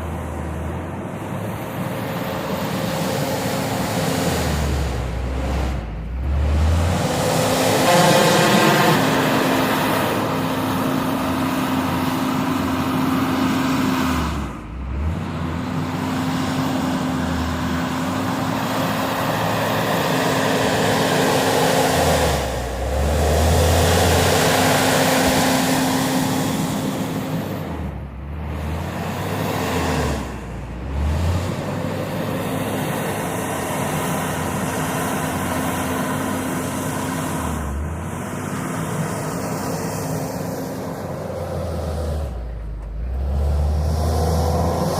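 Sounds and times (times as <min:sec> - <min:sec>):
diesel engine running under load: 0:00.0 - 0:44.9.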